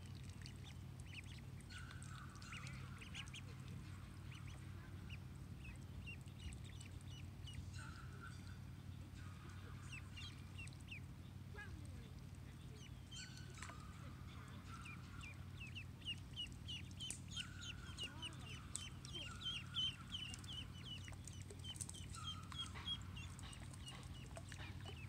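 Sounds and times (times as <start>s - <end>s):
ducklings peeping: 0.1s - 25.0s.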